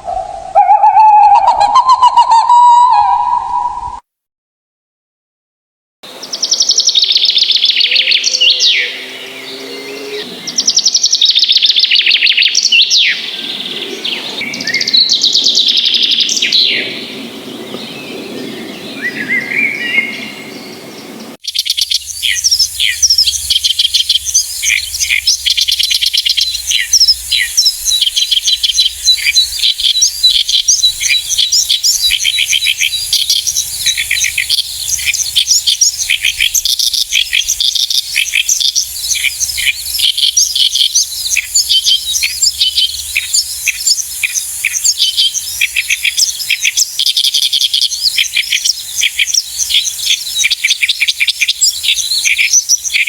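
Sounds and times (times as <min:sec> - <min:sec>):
bird rapid high chirps: 0:00.0 - 0:04.0, 0:06.1 - 0:53.0
songbird trilling: 0:00.0 - 0:04.0, 0:06.1 - 0:53.0.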